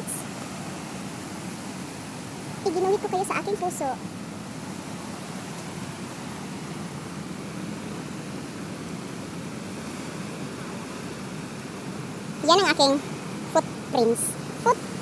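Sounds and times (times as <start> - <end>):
surf washing on beach: 0.0 - 15.0.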